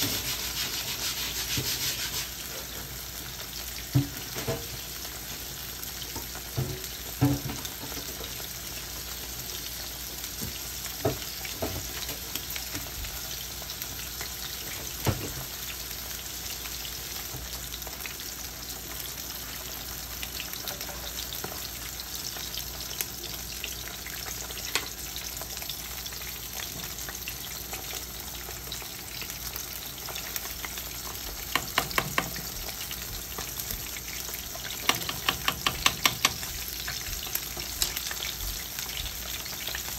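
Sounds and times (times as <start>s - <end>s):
fish sizzling in a frying pan: 0.0s - 39.9s.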